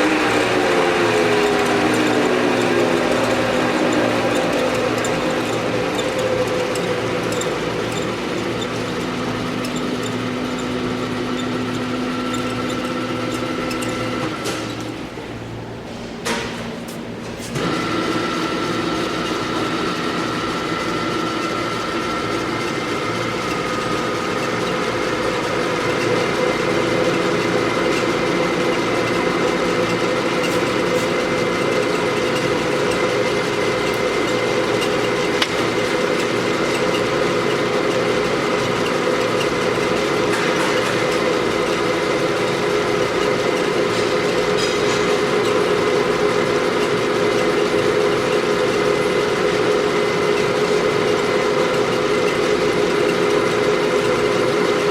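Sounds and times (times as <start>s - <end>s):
drill press humming and whining: 0.0s - 54.9s.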